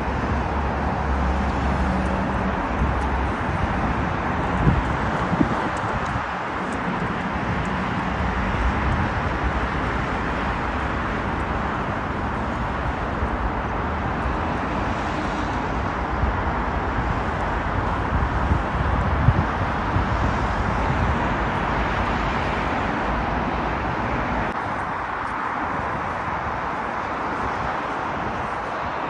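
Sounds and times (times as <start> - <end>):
road traffic noise: 0.0 - 29.0
wind rumbling on microphone: 0.0 - 29.0.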